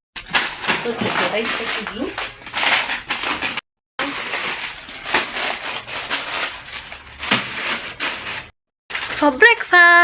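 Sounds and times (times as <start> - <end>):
plastic bags rustling: 0.2 - 10.0.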